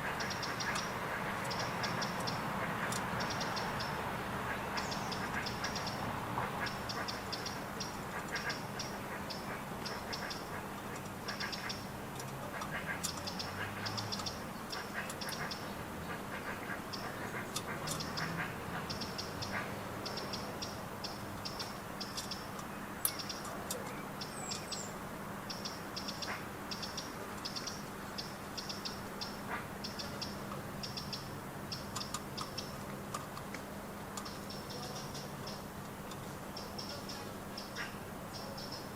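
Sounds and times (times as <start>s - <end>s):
small bird chattering: 0.0s - 6.0s, 6.6s - 33.4s, 34.1s - 35.8s, 36.5s - 38.9s.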